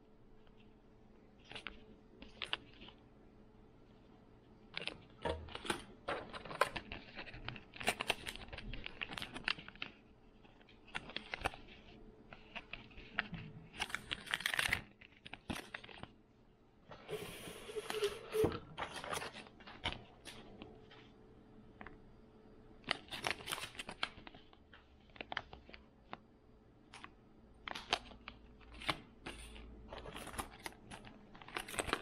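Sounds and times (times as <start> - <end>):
plastic packaging rustling and clicking: 1.4 - 3.0, 4.7 - 16.2, 17.7 - 21.1, 22.8 - 32.0.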